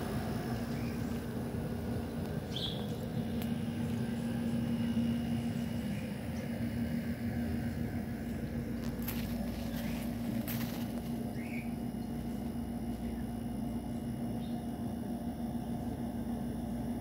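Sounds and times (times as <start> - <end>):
pool heater humming: 0.0 - 17.0.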